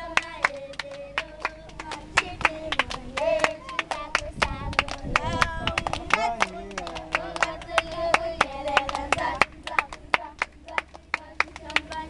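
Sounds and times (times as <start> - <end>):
hand claps: 0.1 - 12.0.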